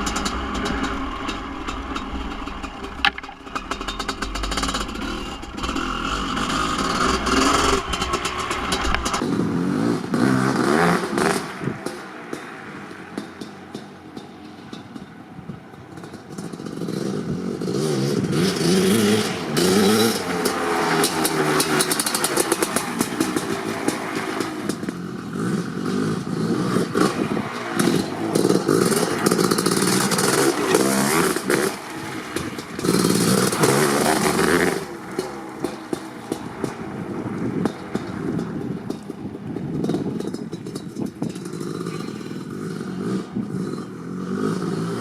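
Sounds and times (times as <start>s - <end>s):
dirt bike engine revving: 0.0s - 12.4s, 16.3s - 45.0s.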